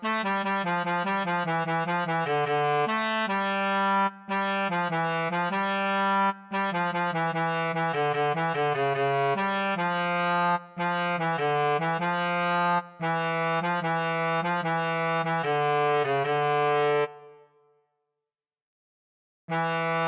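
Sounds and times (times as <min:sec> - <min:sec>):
melodica melody: 0:00.0 - 0:17.2, 0:19.5 - 0:20.0.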